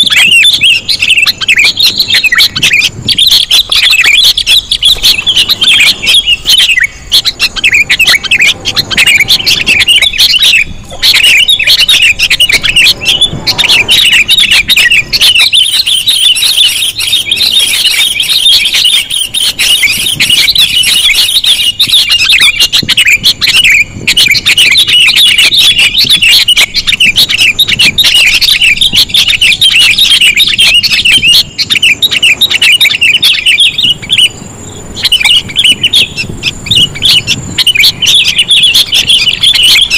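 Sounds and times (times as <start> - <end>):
birds chattering rapid chirps: 0.0 - 39.9.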